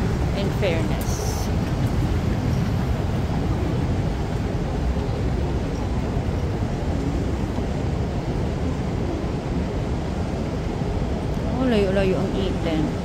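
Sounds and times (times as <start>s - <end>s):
low rumbling airport terminal noise: 0.0s - 13.0s.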